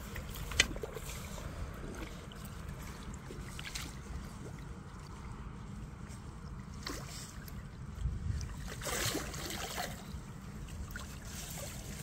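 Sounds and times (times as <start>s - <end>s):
water splashing and sloshing: 0.0s - 12.0s
wind rumble on microphone: 0.0s - 12.0s.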